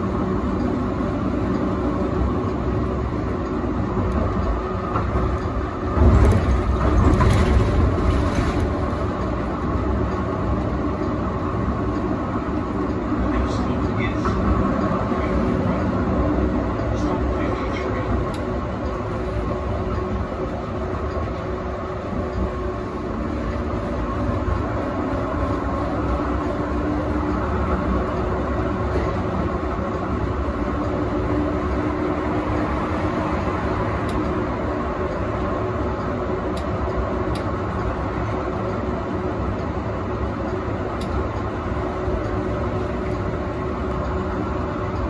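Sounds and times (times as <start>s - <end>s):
low motor whine: 0.0s - 45.0s
tram wheels rumbling on rail: 0.0s - 45.0s.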